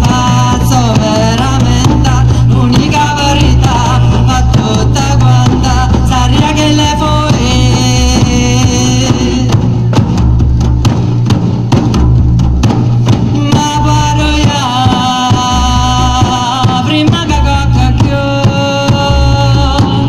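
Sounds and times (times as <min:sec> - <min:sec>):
woman singing: 0:00.0 - 0:09.6, 0:13.3 - 0:20.0
frame drums beaten: 0:00.0 - 0:20.0.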